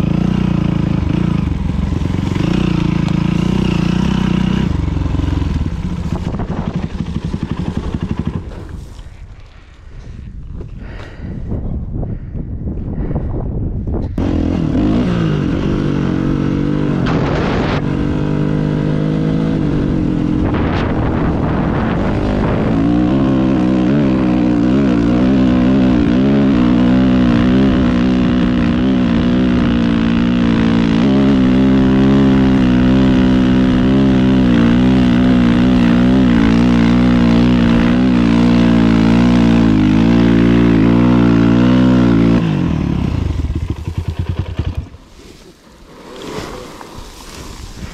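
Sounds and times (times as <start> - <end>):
dirt bike engine revving: 0.0 - 9.0, 14.1 - 45.1.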